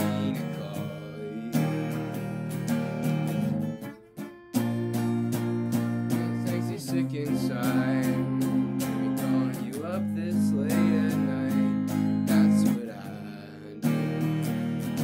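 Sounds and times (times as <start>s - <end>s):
electric guitar strumming chords: 0.0s - 15.0s.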